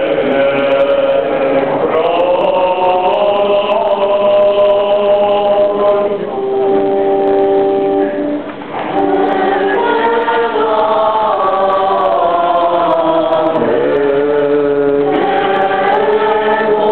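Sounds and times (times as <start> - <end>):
choir and congregation chanting a hymn: 0.0 - 16.9.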